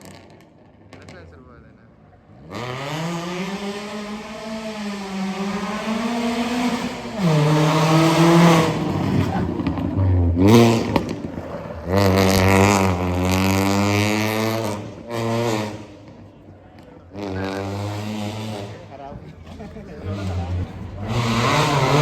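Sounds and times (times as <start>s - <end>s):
car engine revving hard: 2.2s - 16.4s, 17.0s - 22.0s.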